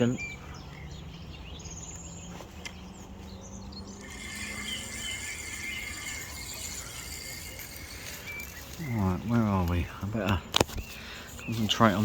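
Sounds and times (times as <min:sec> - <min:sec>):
faint birds calling: 0:00.0 - 0:12.0.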